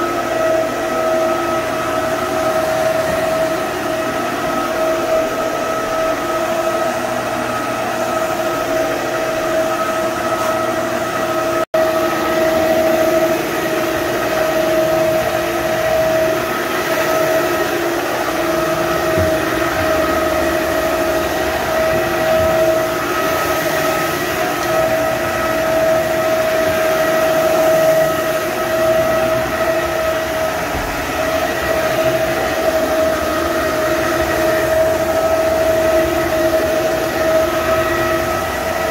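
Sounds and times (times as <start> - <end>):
floor scrubber motor whine: 0.0 - 38.9.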